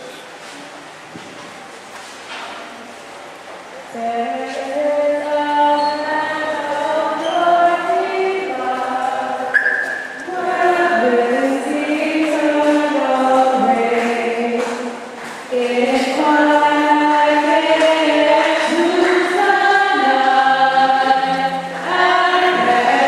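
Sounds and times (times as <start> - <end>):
group of voices singing: 3.9 - 23.0.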